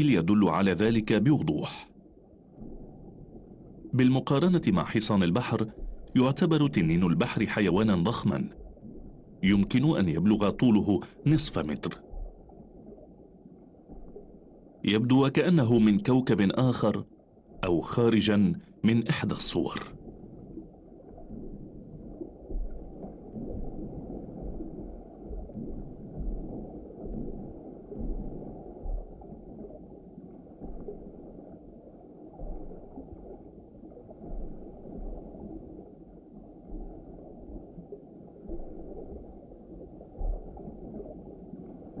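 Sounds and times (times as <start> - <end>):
muffled underwater water rumble: 0.0 - 42.0
water gurgles: 0.0 - 42.0
low underwater thumps: 2.0 - 16.1, 18.7 - 42.0.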